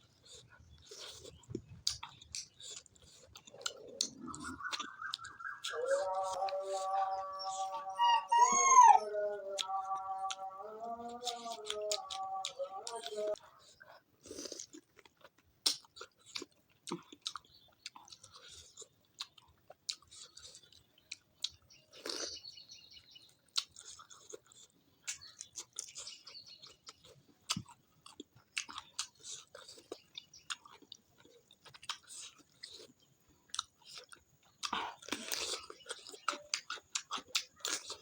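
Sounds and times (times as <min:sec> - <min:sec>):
crunches of food: 0:00.0 - 0:38.0
person chewing food: 0:00.0 - 0:38.0.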